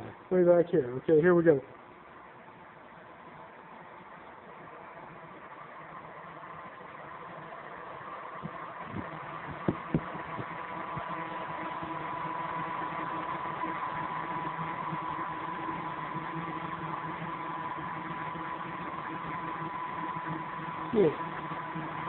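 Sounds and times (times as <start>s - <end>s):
electric blower fan humming: 0.0s - 22.0s.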